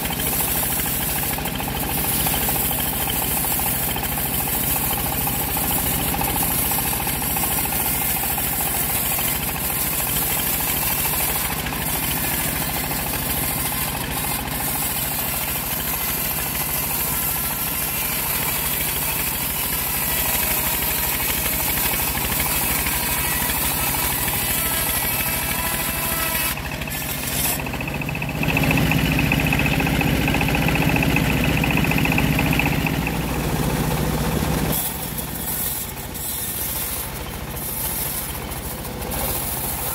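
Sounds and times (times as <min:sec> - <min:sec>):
high whine of saw: 0:00.0 - 0:39.9
sawmill engine running: 0:00.0 - 0:39.9.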